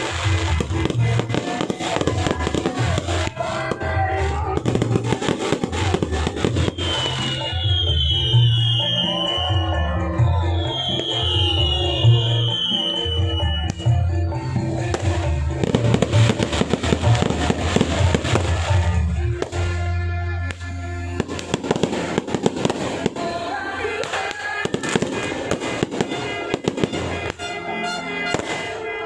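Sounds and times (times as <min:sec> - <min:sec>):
fireworks bursting and crackling: 0:00.0 - 0:29.0
loud music with heavy bass: 0:00.0 - 0:29.0.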